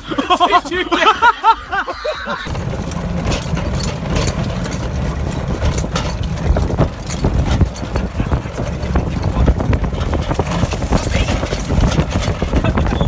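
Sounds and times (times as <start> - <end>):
knocks and rattles: 2.4 - 13.0
vehicle driving over gravel: 2.5 - 13.0.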